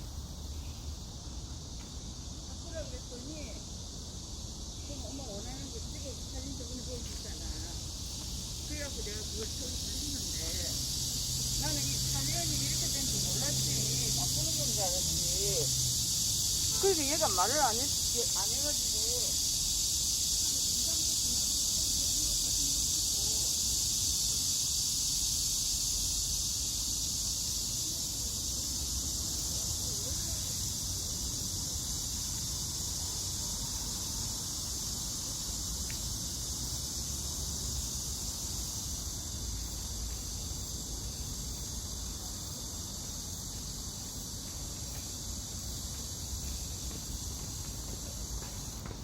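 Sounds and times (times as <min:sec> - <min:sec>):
insect chorus buzzing: 0:00.0 - 0:49.0.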